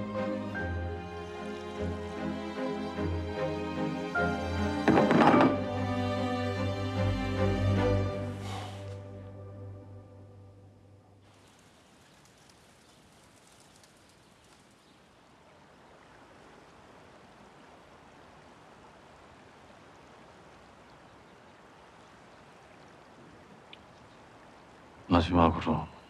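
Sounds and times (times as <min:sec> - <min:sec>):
soft hiss of wind and water: 0:00.0 - 0:26.0.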